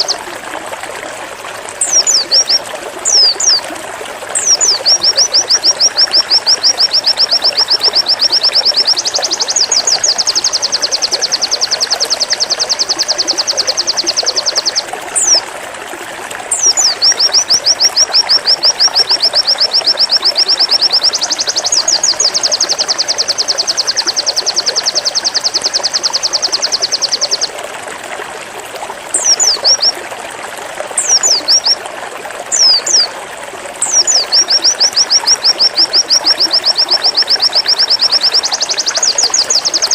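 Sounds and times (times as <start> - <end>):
bird singing fast high runs: 0.0 - 0.2, 1.8 - 3.6, 4.3 - 15.4, 16.5 - 27.5, 29.1 - 30.0, 31.0 - 31.8, 32.5 - 33.2, 33.8 - 39.9.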